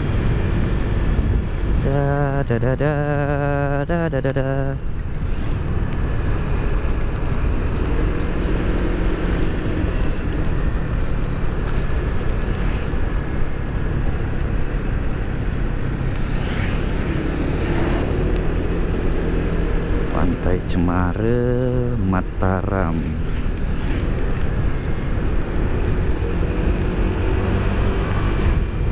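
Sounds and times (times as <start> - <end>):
road and wind noise: 0.0 - 28.9
scooter engine humming: 0.0 - 28.9.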